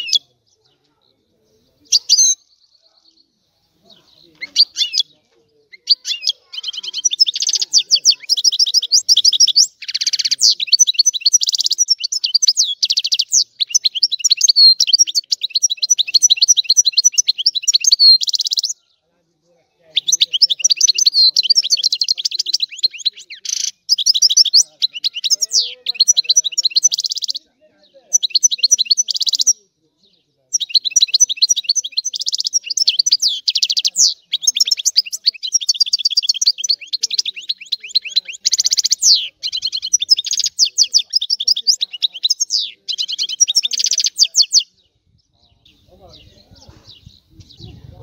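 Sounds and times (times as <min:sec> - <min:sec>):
goldfinch twittering song: 0:01.6 - 0:18.8, 0:19.9 - 0:29.6, 0:30.5 - 0:48.0.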